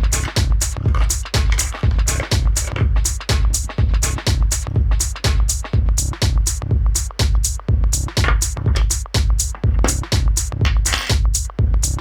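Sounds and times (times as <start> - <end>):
crisp hi-hat hits: 0.0 - 12.0
electronic dance music: 0.0 - 12.0
kick drum beat: 0.0 - 12.0.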